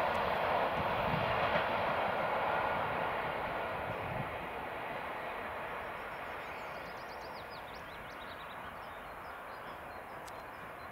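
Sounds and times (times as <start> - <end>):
distant train rolling: 0.0 - 10.9.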